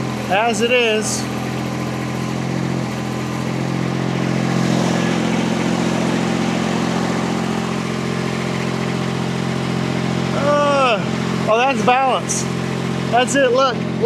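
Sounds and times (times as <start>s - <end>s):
skid steer engine running: 0.0s - 14.0s.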